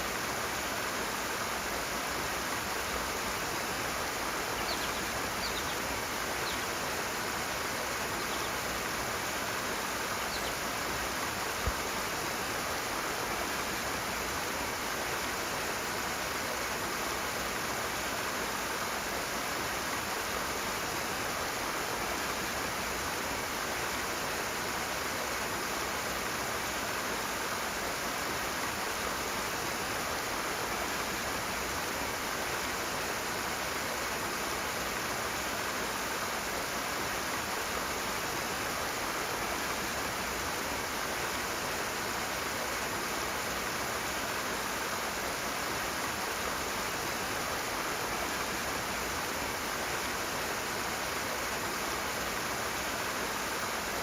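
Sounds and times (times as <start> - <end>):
fast-flowing water rushing: 0.0 - 54.0.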